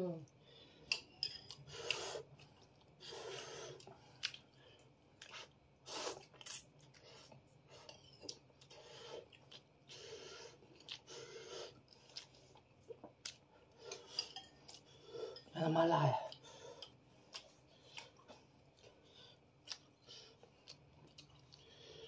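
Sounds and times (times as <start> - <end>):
man chewing noodles: 1.4 - 15.5, 16.3 - 22.0.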